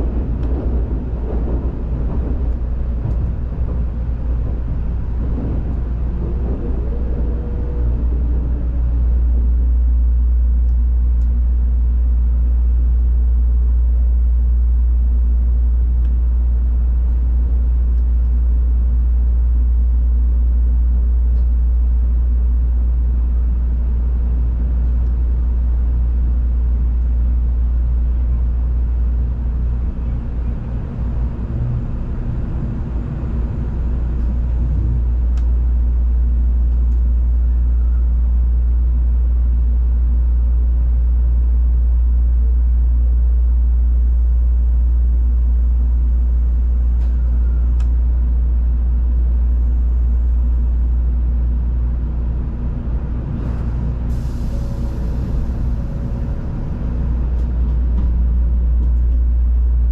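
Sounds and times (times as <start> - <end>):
train cabin low rumble: 0.0 - 59.9.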